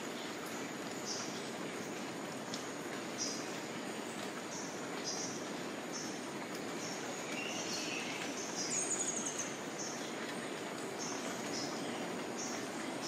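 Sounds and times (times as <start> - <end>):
rainforest background hiss: 0.0 - 13.0.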